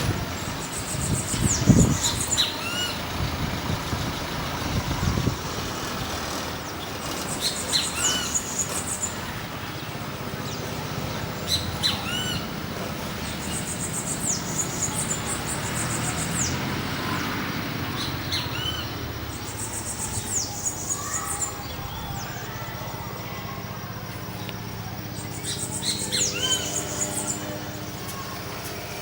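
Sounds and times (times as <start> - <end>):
high buzzy bird trills: 0.0 - 29.0.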